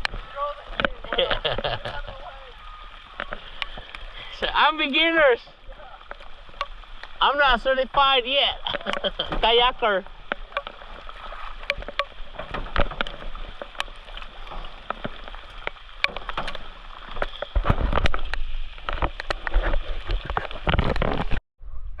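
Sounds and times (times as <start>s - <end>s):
water sloshing and splashing: 0.0s - 21.4s
paddle knocking against boat: 3.1s - 21.4s.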